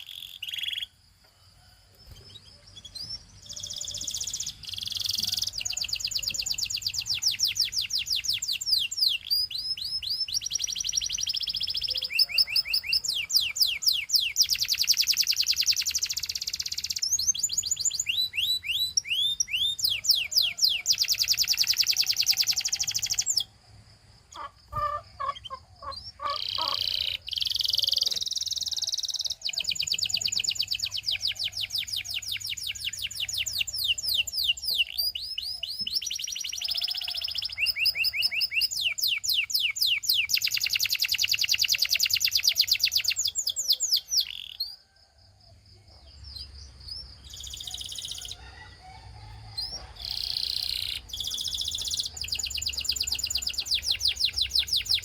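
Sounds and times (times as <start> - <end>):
canary singing trills: 0.0 - 1.0, 2.0 - 23.6, 24.3 - 45.0, 46.0 - 48.7, 49.6 - 55.0.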